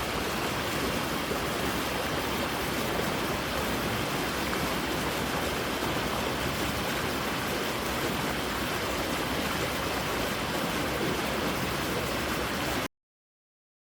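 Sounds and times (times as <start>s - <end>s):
creek water rushing: 0.0s - 12.9s.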